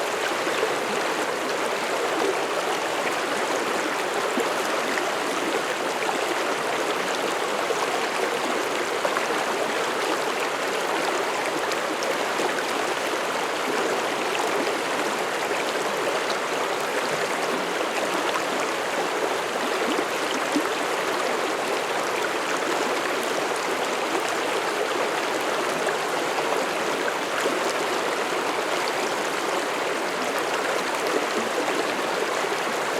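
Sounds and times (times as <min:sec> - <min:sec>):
stream flowing over rocks: 0:00.0 - 0:32.9.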